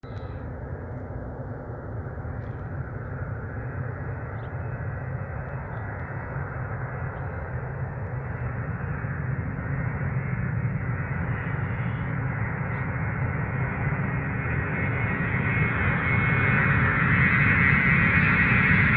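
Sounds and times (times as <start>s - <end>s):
faint whine: 0.0s - 18.9s
jet engines rumbling: 0.0s - 18.9s.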